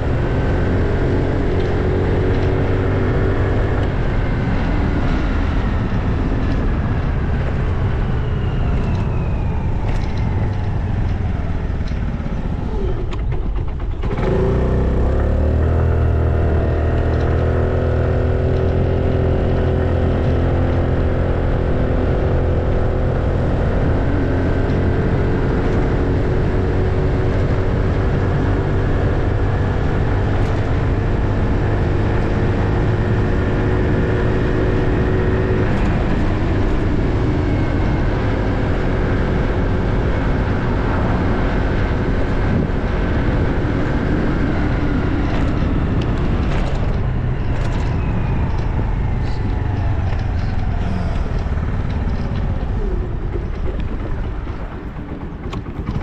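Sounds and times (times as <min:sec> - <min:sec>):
minibike engine running: 0:00.0 - 0:56.0.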